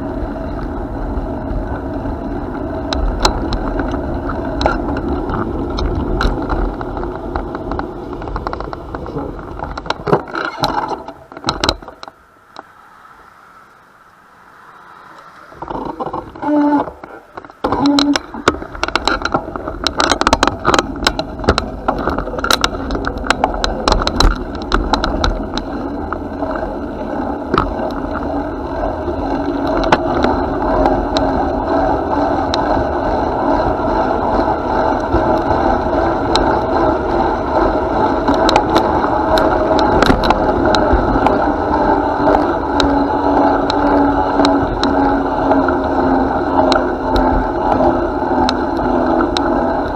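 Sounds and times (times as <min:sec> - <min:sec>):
bike rattling and clicking over bumps: 0:00.0 - 0:13.0, 0:13.6 - 0:49.9
bicycle tyres rolling: 0:00.0 - 0:49.9.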